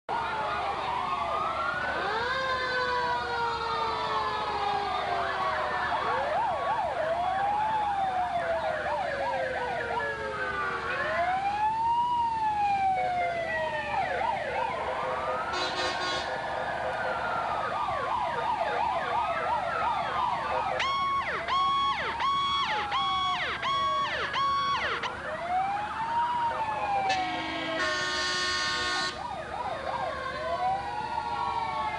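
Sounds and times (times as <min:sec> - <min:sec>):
fire engine sirens wailing: 0:00.1 - 0:31.9
pulsed siren tone: 0:01.7 - 0:31.9.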